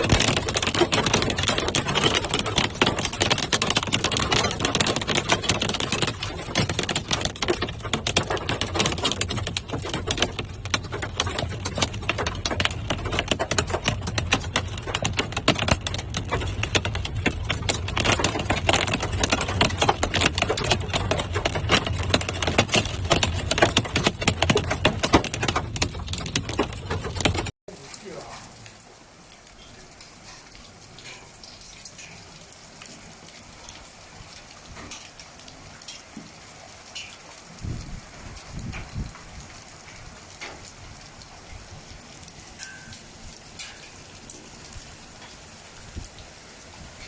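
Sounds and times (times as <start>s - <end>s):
hail and rain pelting a car: 0.0s - 47.0s.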